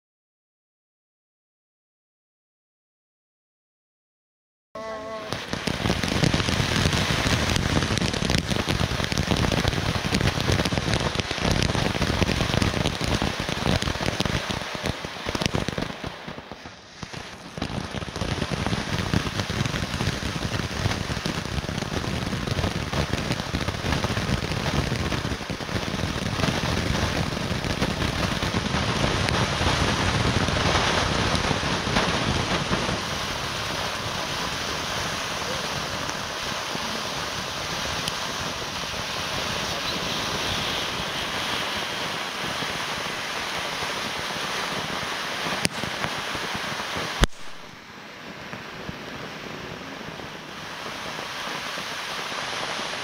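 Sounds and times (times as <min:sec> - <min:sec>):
firework fountain hissing and crackling: 0:04.8 - 0:53.0.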